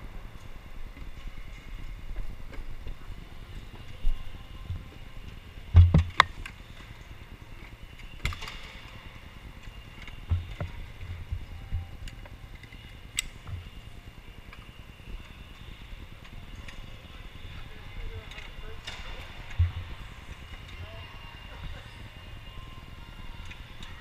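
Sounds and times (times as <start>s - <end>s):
faint electric motor whine: 0.0s - 24.0s
low rolling rumble and air noise: 0.0s - 24.0s.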